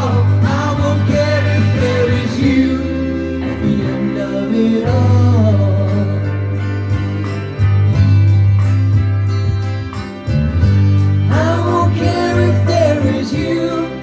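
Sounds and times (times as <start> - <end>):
pop backing track: 0.0 - 14.0.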